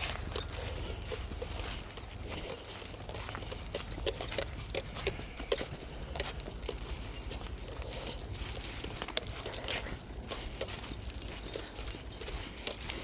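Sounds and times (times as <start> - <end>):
footsteps on a path: 0.0 - 13.0.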